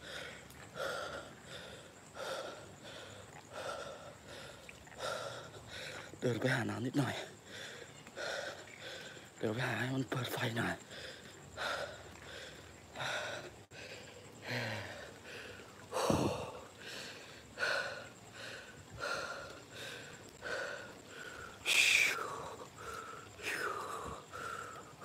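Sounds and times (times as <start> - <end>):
swimmer breathing hard: 0.0 - 6.2, 7.2 - 9.4, 10.8 - 25.0.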